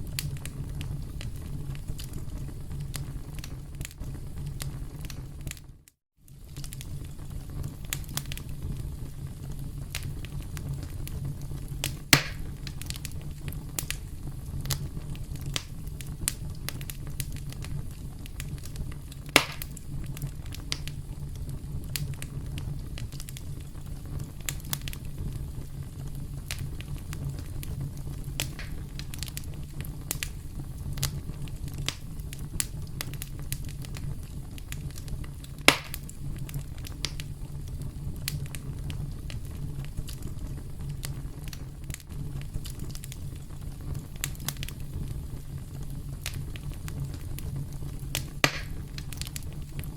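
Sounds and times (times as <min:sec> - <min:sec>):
campfire crackling: 0:00.0 - 0:49.9
loud fire pops: 0:00.0 - 0:49.9.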